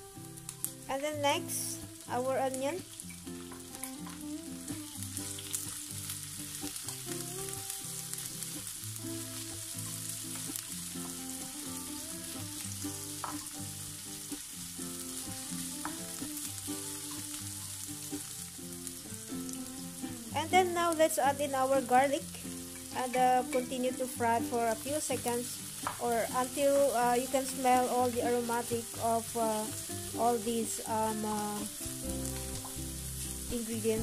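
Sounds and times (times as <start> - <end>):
onions sizzling in hot oil: 0.0 - 34.0
soft melodic background music: 0.0 - 34.0.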